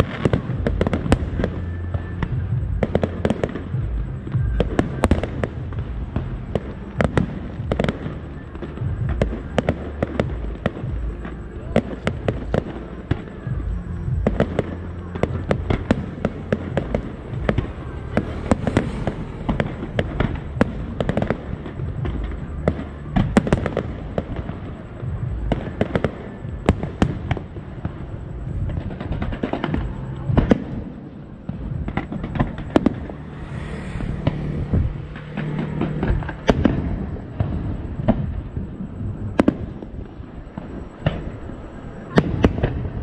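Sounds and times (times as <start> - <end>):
fireworks booming and cracking: 0.0 - 43.0.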